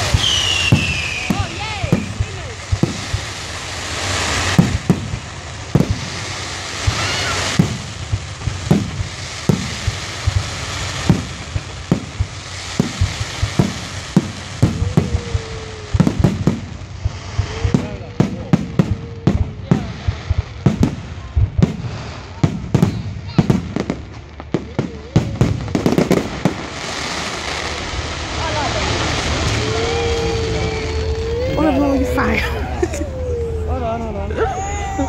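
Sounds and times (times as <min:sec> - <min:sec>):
fireworks bangs: 0:00.0 - 0:35.0
fireworks hissing: 0:00.0 - 0:35.0.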